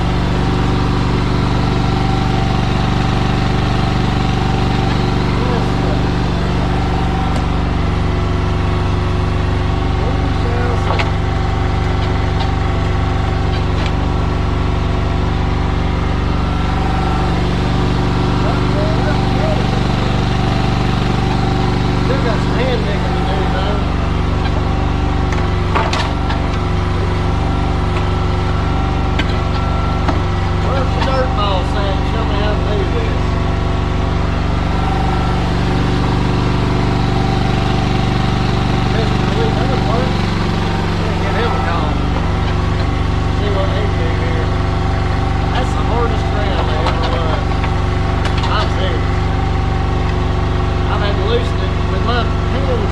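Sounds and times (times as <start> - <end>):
diesel excavator engine running: 0.0 - 52.9.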